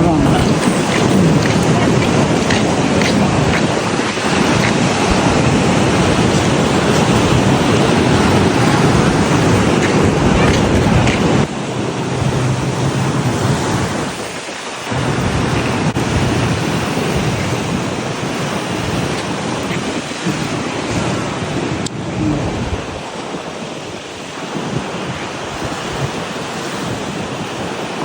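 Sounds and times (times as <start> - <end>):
ocean surf washing in: 0.0 - 28.0
wind rumbling on microphone: 0.0 - 28.0.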